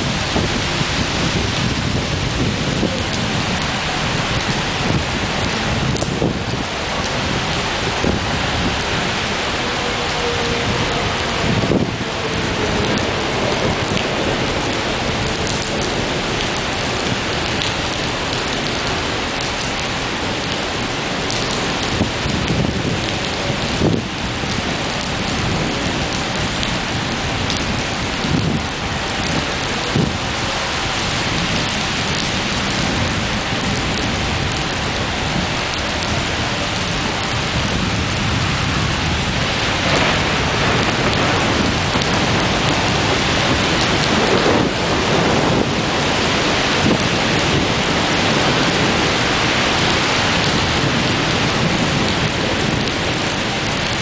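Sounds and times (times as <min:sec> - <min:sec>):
heavy rain pouring: 0:00.0 - 0:54.0
thunder rumbling: 0:00.0 - 0:54.0.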